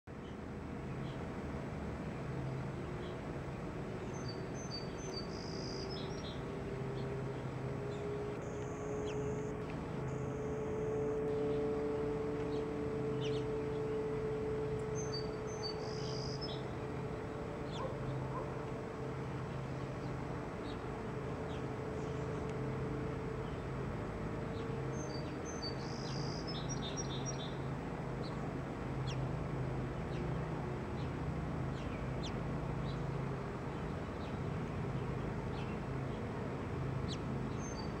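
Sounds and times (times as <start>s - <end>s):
steady low hum: 0.1s - 38.0s
small birds chirping: 2.3s - 38.0s.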